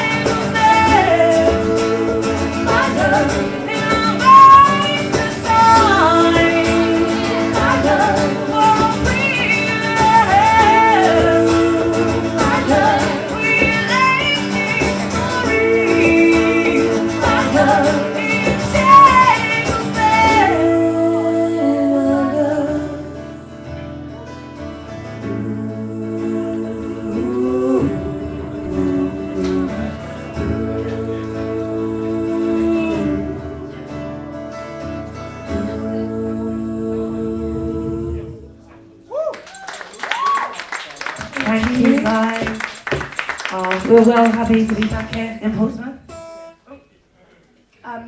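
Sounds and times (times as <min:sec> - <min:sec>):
woman singing: 0:00.0 - 0:23.7, 0:25.2 - 0:34.1, 0:35.5 - 0:38.5, 0:41.4 - 0:42.7, 0:43.4 - 0:45.8
strummed guitar: 0:00.0 - 0:39.0.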